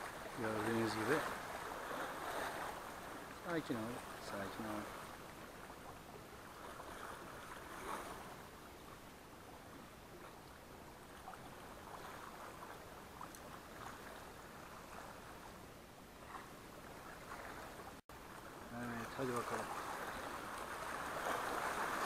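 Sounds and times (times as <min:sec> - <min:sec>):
waves lapping against rocks: 0:00.0 - 0:15.6, 0:16.2 - 0:22.0
water splashes: 0:00.0 - 0:22.0.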